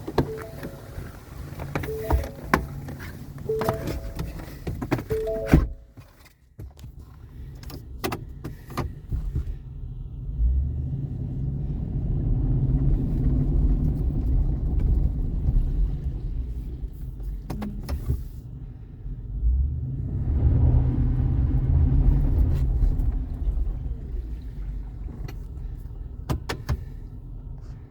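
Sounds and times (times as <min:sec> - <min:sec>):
pickup engine rumbling: 0:00.0 - 0:05.8, 0:07.9 - 0:27.9.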